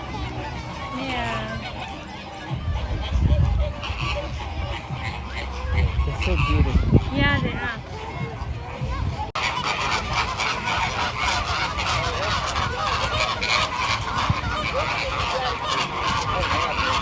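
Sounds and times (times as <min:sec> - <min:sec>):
flock of flamingos honking: 0:00.0 - 0:17.0.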